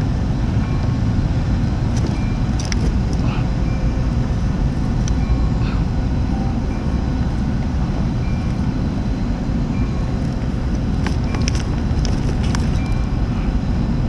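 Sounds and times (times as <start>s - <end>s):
ship engines rumbling: 0.0s - 14.0s.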